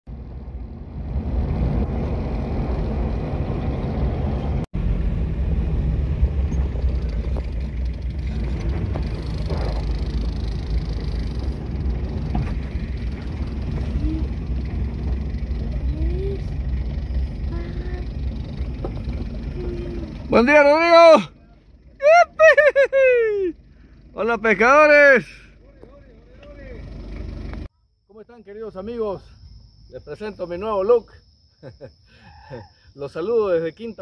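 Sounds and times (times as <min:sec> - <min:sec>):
car engine and tyres rumble: 0:00.1 - 0:27.7.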